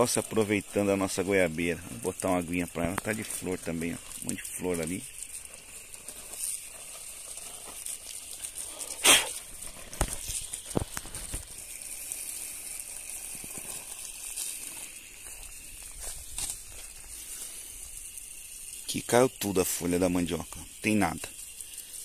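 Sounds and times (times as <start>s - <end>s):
hose water splashing on leaves: 0.0s - 22.0s.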